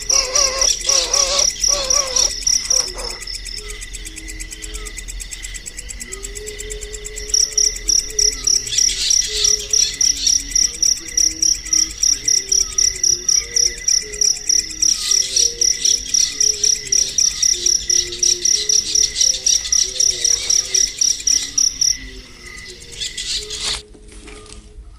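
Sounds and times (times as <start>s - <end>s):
cricket chirping: 0.0s - 23.8s.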